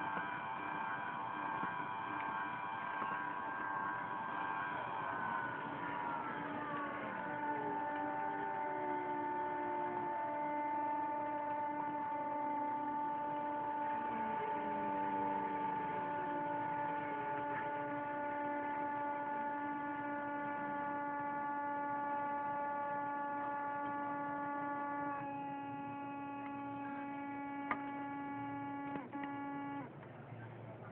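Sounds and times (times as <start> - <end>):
tesla coil electrical hum: 0.0 - 30.9.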